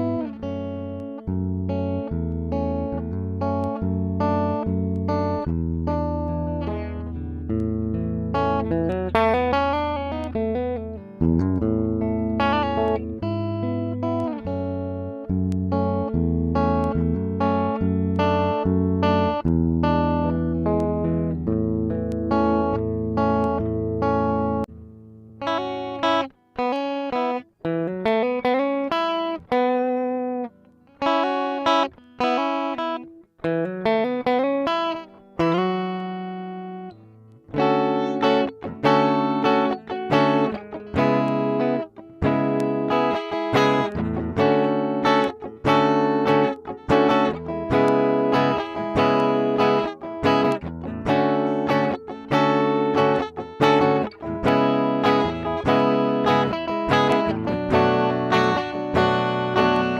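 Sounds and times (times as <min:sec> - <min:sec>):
clean electric guitar playing: 0:00.0 - 0:59.9.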